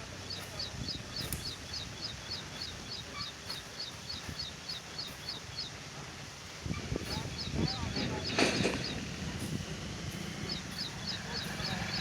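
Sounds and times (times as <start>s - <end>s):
low rumbling noise: 0.0s - 12.0s
bird chirping: 0.1s - 5.8s, 6.8s - 9.2s, 10.2s - 12.0s.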